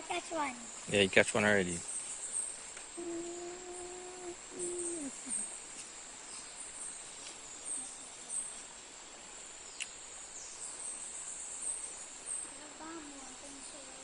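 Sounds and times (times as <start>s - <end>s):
insect chirps: 0.0s - 14.0s
insects chorus: 0.0s - 14.0s.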